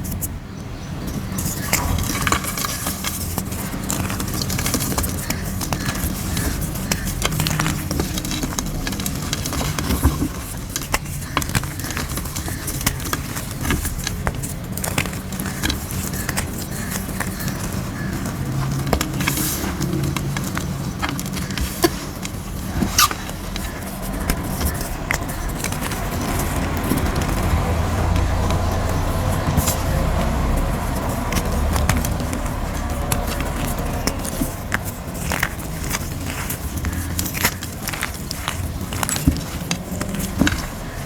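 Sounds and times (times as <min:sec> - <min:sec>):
chalk crumbling between fingers: 0:01.1 - 0:41.0.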